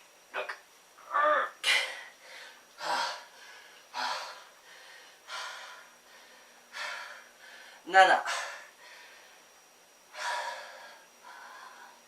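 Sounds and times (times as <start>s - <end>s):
man gasping breaths: 1.6s - 9.4s, 10.1s - 12.0s.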